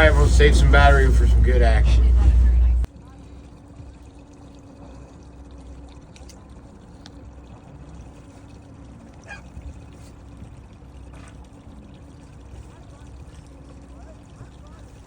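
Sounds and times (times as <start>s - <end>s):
low steady hum: 0.0s - 15.0s
water splashing against boat hull: 0.0s - 15.0s.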